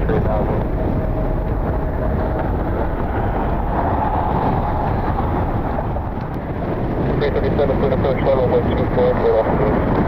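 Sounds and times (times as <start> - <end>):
strong gusty wind on microphone: 0.0 - 10.0.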